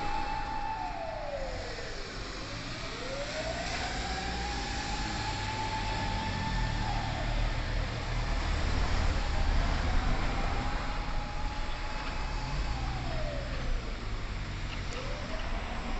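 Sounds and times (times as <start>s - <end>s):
mechanical motor siren wailing: 0.0s - 15.9s
vehicle engine rumble: 0.0s - 15.9s.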